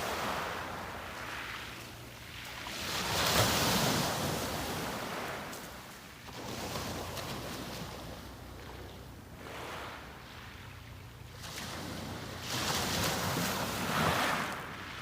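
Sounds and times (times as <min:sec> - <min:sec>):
sea waves breaking on a beach: 0:00.0 - 0:15.0.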